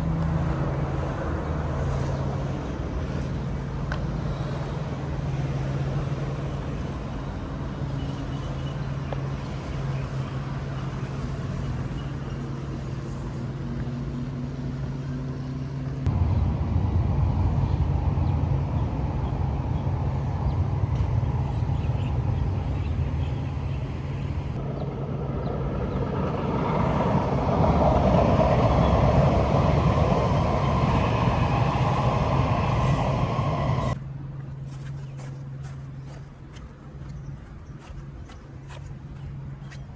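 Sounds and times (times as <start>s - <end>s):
loud engine rumble: 0.0s - 34.2s
motor traffic hum: 0.0s - 39.9s.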